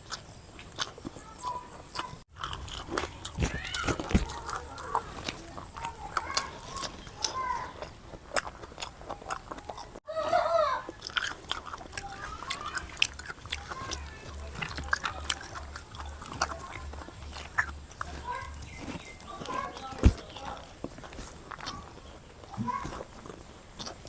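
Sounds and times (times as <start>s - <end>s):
chewing and biting food: 0.0s - 10.1s, 10.8s - 24.0s
food crunching: 0.0s - 24.0s.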